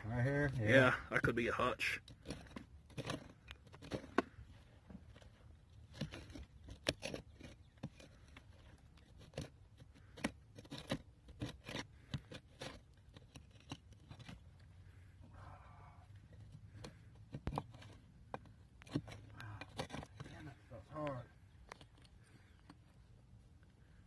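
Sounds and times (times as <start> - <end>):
digging scrapes in dirt: 0.0 - 24.0.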